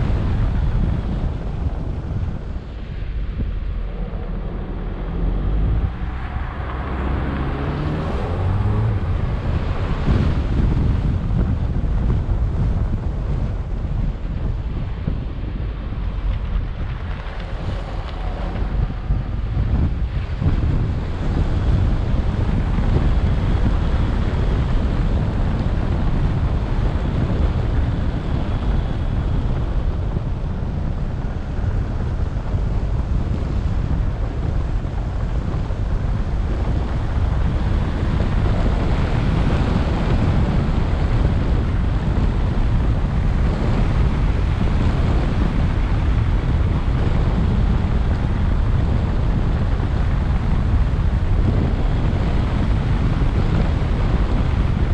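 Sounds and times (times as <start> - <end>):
car and tyres rumbling on road: 0.0 - 54.9
wind rushing over microphone: 0.0 - 54.9.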